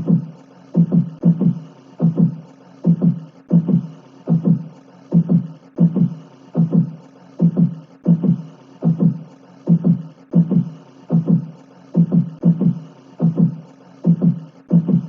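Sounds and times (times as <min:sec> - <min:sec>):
heartbeat-like low thumps: 0:00.0 - 0:15.0.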